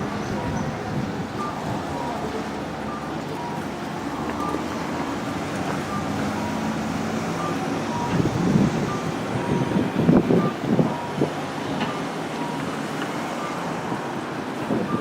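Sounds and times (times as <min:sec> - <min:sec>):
wind buffeting microphone: 0:00.0 - 0:13.0, 0:13.7 - 0:15.0
street traffic: 0:00.0 - 0:15.0
vehicle warning beeper: 0:00.0 - 0:15.0.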